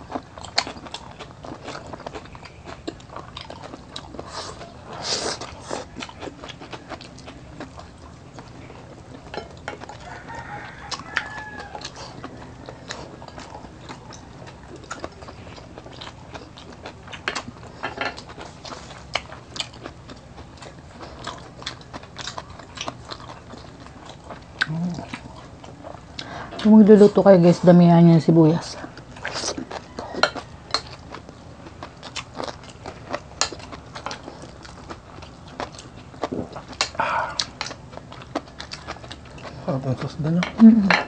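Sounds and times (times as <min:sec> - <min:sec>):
chewing and mouth smacking: 0:00.0 - 0:26.6, 0:28.6 - 0:40.6.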